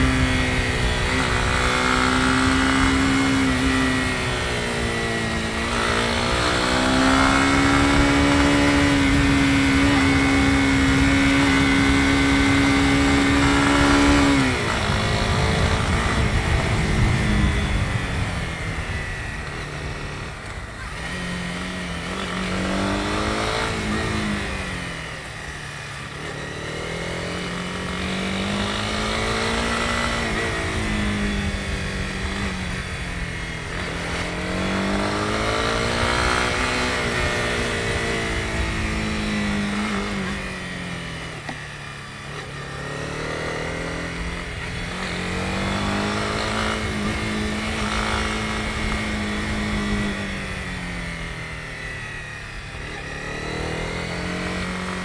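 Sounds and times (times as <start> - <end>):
motorcycle engine revving: 0.0 - 55.0
road and wind noise: 0.0 - 55.0.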